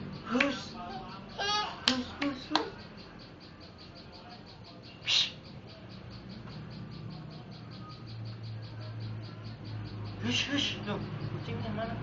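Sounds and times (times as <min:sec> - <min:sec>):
rapid insect-like chirping: 0:00.0 - 0:12.0.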